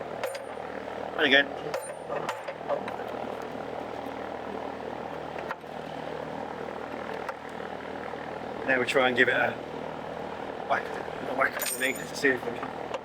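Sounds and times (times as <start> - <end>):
engine-like drone: 0.0 - 13.0.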